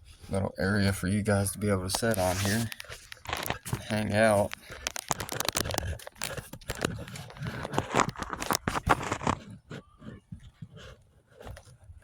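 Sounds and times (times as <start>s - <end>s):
camera handling rustling and knocks: 1.9s - 11.8s.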